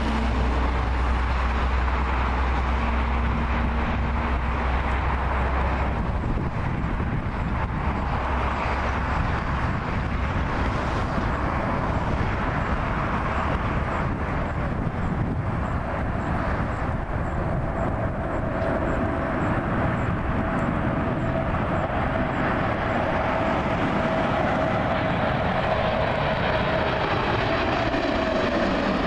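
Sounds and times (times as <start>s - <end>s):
jet engine rumble: 0.0s - 29.0s
jet engine whine: 0.0s - 29.0s.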